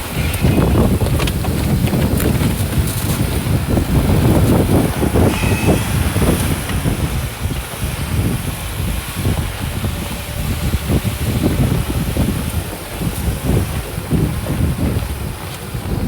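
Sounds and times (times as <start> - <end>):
off-road vehicle engine rumble: 0.0 - 16.0
wind buffeting microphone: 0.0 - 16.0.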